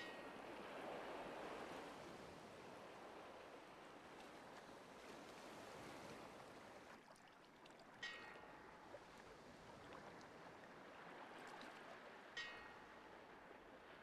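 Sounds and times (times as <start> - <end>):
faint sea wash: 0.0 - 14.0.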